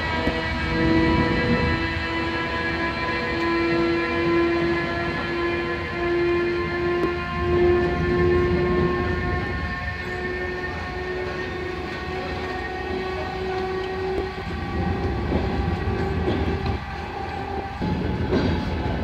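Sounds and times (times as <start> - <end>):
train coaches rumbling past: 0.0 - 19.0
train wheel clatter: 0.0 - 19.0.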